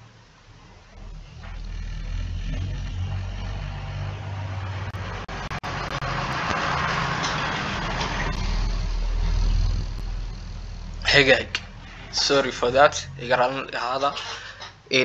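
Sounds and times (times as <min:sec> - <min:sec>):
vehicle engine rumbling: 0:00.0 - 0:14.9.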